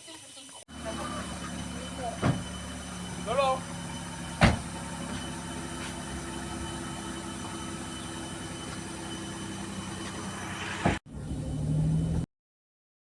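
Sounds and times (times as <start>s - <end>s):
vehicle engine idling: 0.7s - 12.2s.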